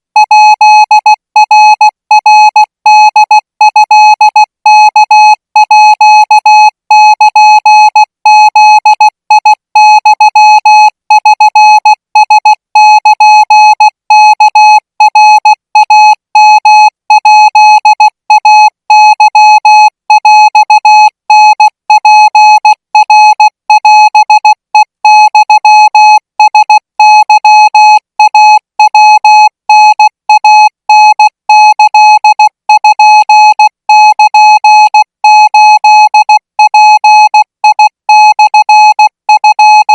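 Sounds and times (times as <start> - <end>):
morse code beeps: 0.2 - 39.9.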